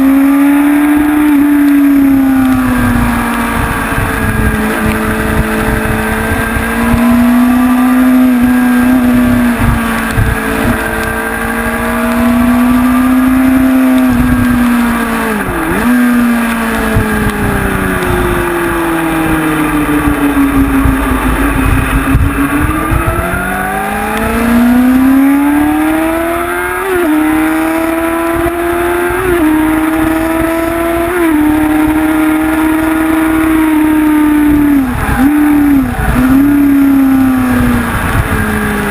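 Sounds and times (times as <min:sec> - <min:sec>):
motorcycle engine revving: 0:00.0 - 0:38.9
wind rushing over microphone: 0:00.0 - 0:38.9.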